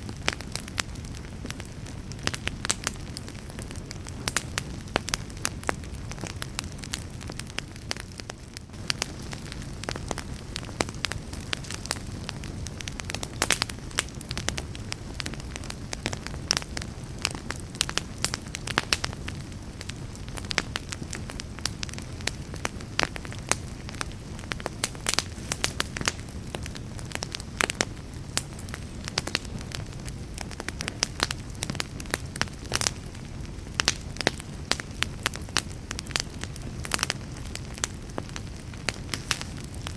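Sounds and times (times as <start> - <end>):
campfire crackles and pops: 0.0 - 39.9
low rumble of flames: 0.0 - 39.9.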